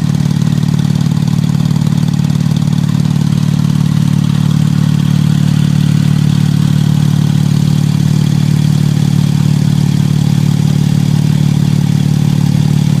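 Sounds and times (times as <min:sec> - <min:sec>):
car engine running steadily: 0:00.0 - 0:13.0.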